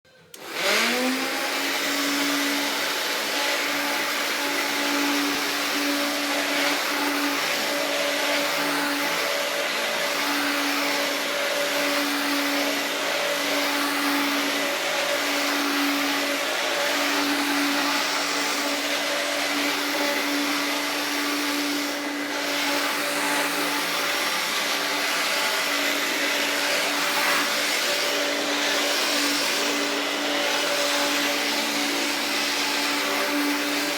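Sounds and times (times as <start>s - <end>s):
upright vacuum cleaner running: 0.1s - 33.9s.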